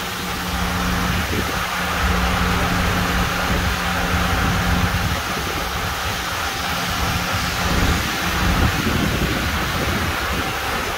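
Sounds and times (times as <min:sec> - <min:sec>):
rain: 0:00.0 - 0:10.9
wind: 0:00.0 - 0:10.9.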